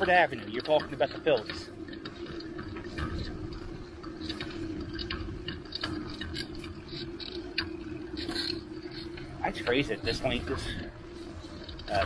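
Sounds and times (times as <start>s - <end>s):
bicycle ticking and clicking: 0.0s - 12.0s
steady street hum: 0.0s - 12.0s.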